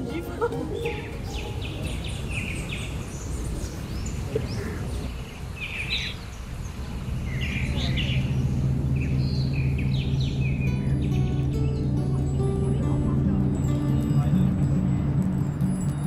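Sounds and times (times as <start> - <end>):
low background rumble: 0.0 - 16.0
small birds chirping: 0.8 - 14.6.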